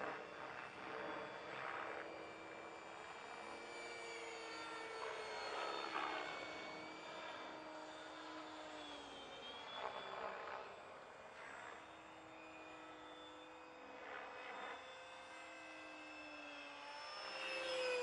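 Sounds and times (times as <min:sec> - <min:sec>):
model jet fan whining: 0:00.0 - 0:18.0.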